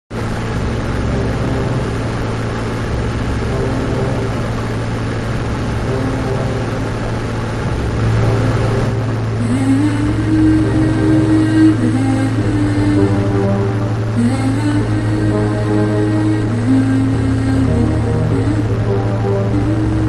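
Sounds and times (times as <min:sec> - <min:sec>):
airplane engine and propeller droning: 0:00.1 - 0:20.0
background music held tone: 0:00.1 - 0:20.0.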